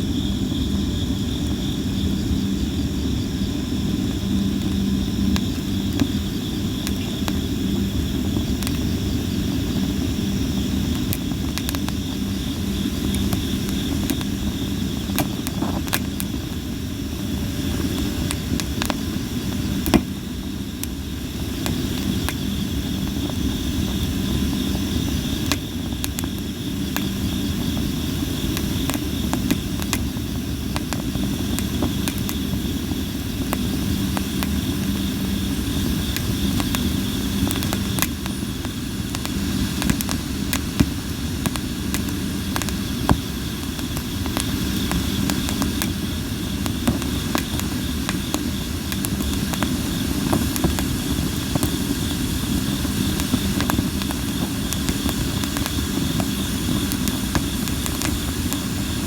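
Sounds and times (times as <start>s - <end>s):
campfire crackling and popping: 3.9s - 59.0s.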